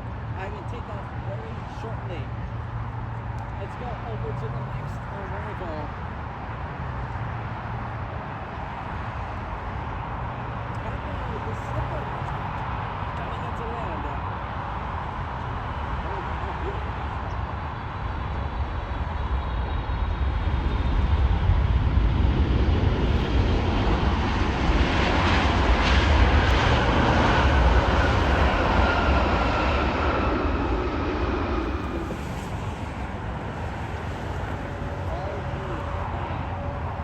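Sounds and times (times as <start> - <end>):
jet airliner passing: 0.0 - 37.0.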